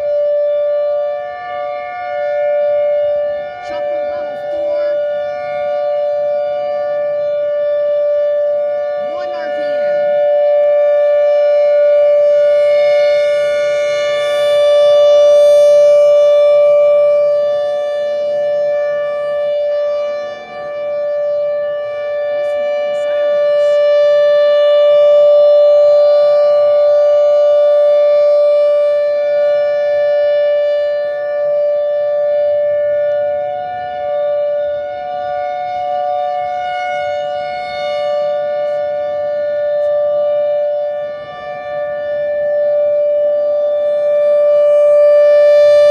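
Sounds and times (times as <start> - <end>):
warning siren two-tone signal: 0.0 - 45.9.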